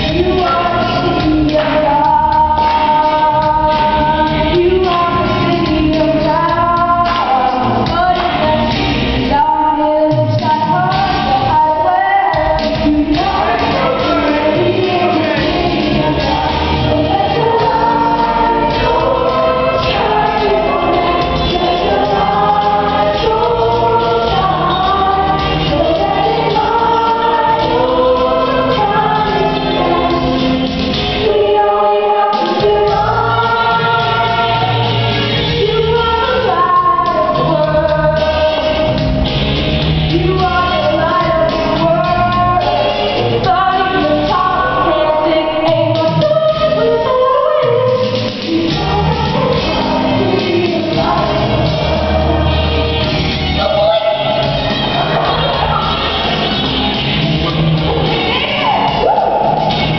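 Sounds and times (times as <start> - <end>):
children's chorus singing: 0.0 - 8.8, 9.5 - 39.0, 40.1 - 59.9
instrumental accompaniment with beat: 0.0 - 59.9.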